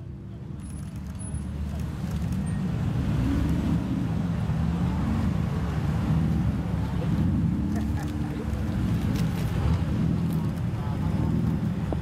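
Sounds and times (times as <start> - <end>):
car engines rumbling at low revs: 0.0 - 12.0.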